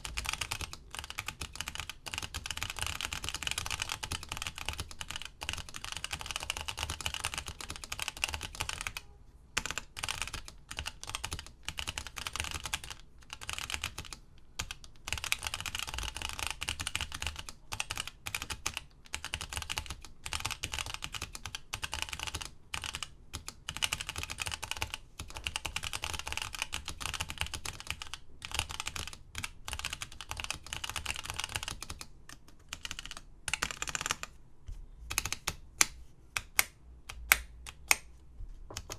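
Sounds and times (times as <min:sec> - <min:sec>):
fast typing on keyboard: 0:00.0 - 0:09.0, 0:09.6 - 0:34.3, 0:35.1 - 0:35.6.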